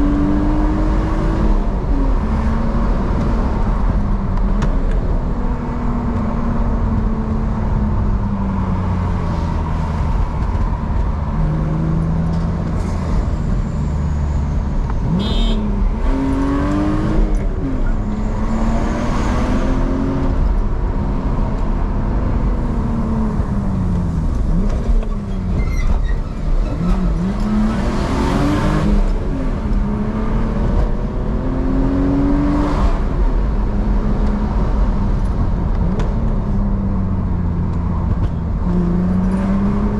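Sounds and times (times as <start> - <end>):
car engine revving on the move: 0.0 - 39.9
low road rumble: 0.0 - 39.9.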